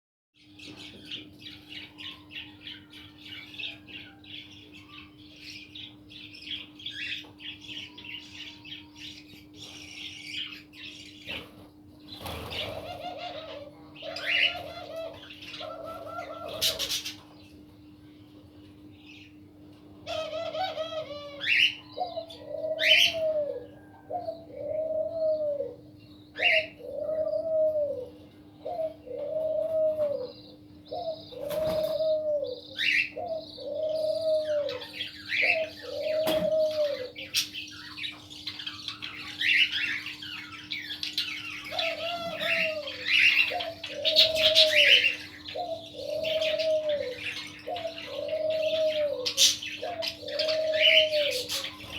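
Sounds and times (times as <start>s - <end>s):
small birds chirping: 0.4s - 51.9s
steady low hum: 0.4s - 51.9s
dove cooing: 1.0s - 17.3s, 20.0s - 51.9s.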